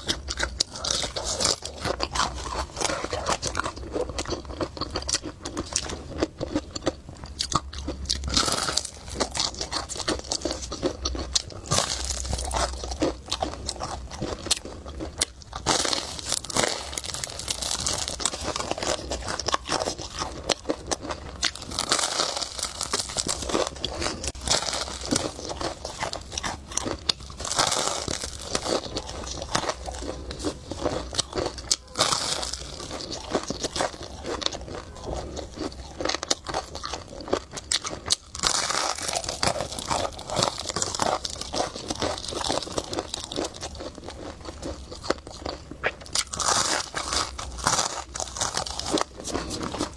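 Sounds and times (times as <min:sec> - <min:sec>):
person chewing and biting: 0:00.0 - 0:49.9.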